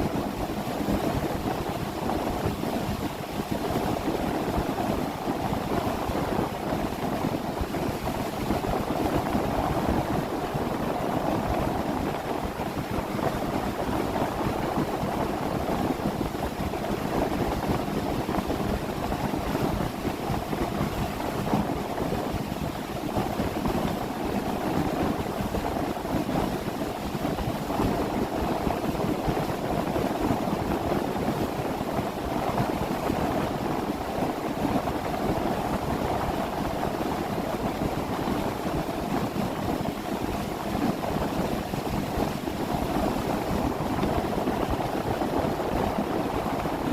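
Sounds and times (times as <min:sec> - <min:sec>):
wind on microphone: 0:00.0 - 0:46.9.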